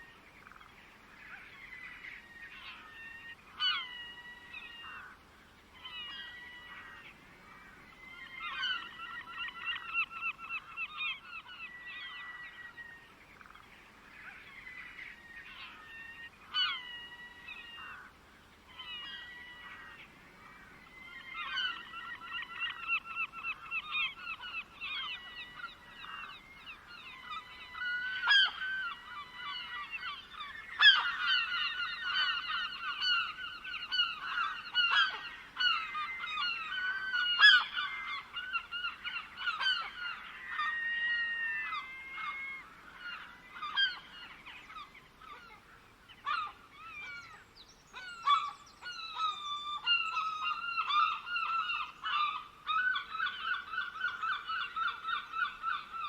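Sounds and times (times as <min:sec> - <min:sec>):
flock of birds calling: 0:00.0 - 0:56.0.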